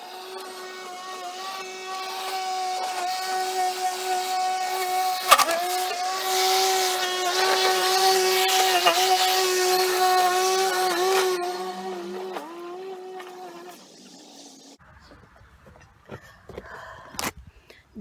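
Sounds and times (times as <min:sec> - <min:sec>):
electric lawn mower whining: 0:00.0 - 0:14.8
hiss of cutting grass: 0:00.0 - 0:14.8.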